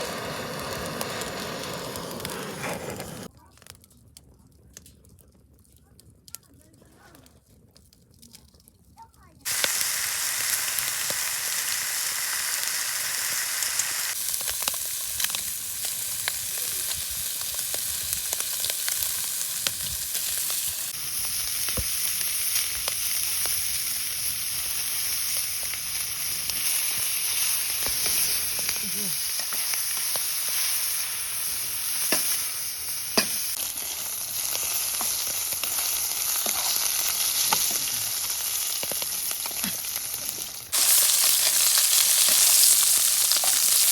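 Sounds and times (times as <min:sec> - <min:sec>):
food sizzling in a pan: 0:00.0 - 0:03.3, 0:09.4 - 0:43.9.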